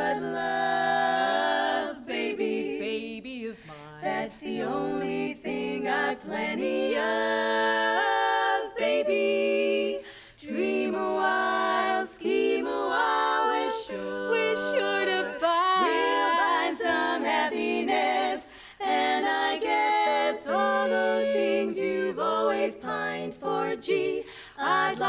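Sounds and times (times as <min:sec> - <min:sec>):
women's chorus singing a cappella: 0:00.0 - 0:25.0.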